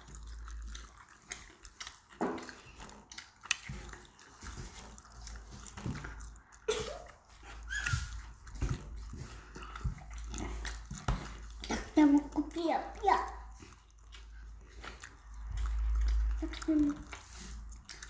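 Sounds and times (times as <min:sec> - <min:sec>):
child chewing pizza: 0:00.0 - 0:18.0
pitched mouth or throat sounds: 0:00.0 - 0:18.0.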